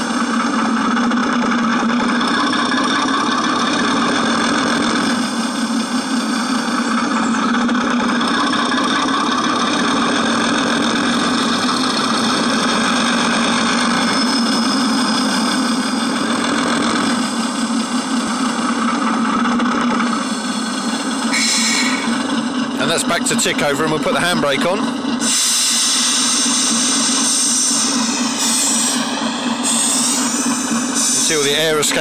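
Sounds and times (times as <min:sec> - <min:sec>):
simulated diesel locomotive engine: 0:00.0 - 0:32.0.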